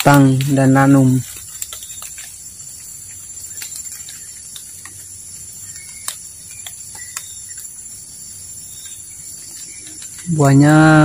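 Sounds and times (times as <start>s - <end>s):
high-pitched insect drone: 0.0s - 11.0s
sharp ticks and snaps: 0.0s - 11.0s.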